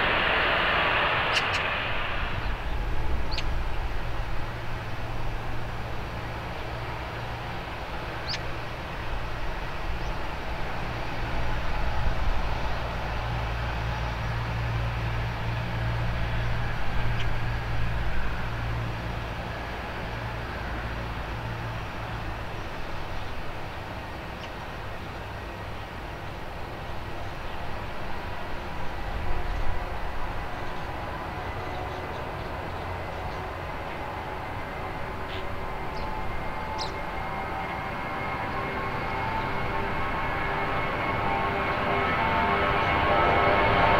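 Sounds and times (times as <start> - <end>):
jet engines at takeoff power: 0.0 - 43.9.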